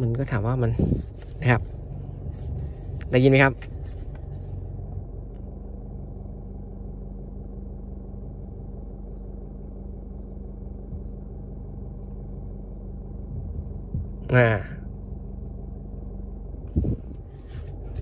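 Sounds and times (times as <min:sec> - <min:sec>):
engine idling in cab: 0:00.0 - 0:18.0.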